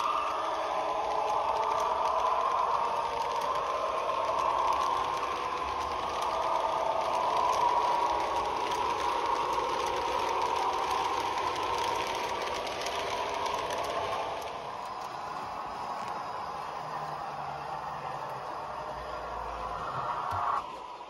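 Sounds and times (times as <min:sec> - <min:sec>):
wheels rattling over track: 0:00.0 - 0:21.0.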